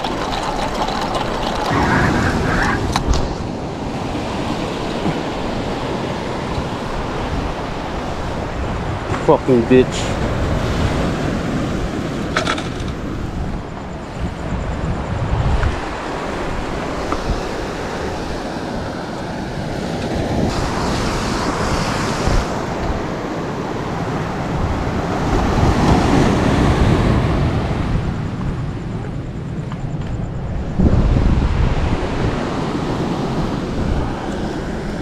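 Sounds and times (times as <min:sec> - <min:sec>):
surf washing against rocks: 0:00.0 - 0:28.8
wind buffeting microphone: 0:00.0 - 0:35.0.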